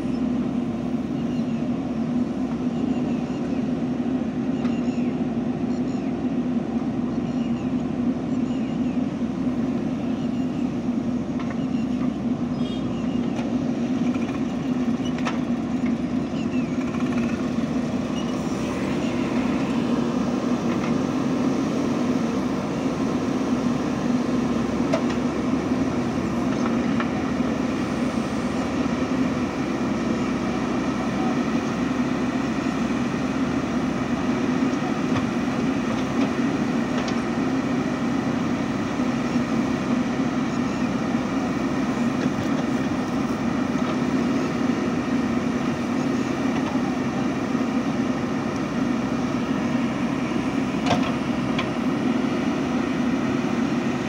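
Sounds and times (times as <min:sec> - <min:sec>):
diesel engine drone: 0:00.0 - 0:54.0.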